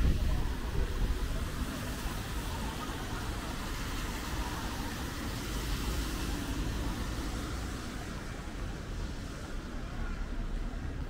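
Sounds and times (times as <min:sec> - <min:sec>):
rain hiss on street: 0:00.0 - 0:11.0.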